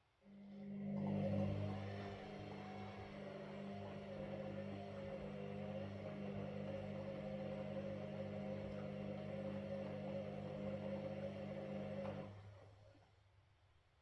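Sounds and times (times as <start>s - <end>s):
washing machine motor hum: 0.2s - 13.0s.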